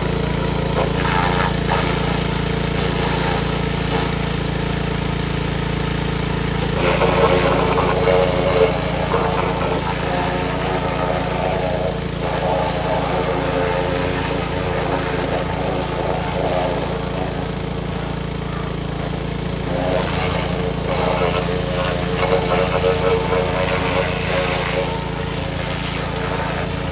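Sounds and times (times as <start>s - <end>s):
pressure washer spraying metal: 0.0s - 26.9s.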